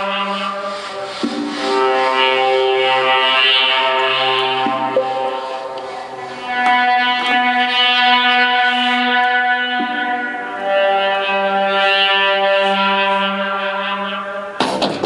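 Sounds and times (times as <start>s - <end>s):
instrumental music with long held notes: 0.0s - 15.0s.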